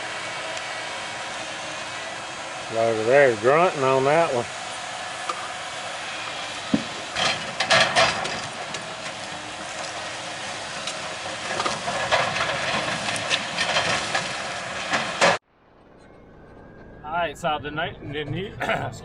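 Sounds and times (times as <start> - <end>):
diesel engine labouring: 0.0 - 19.0.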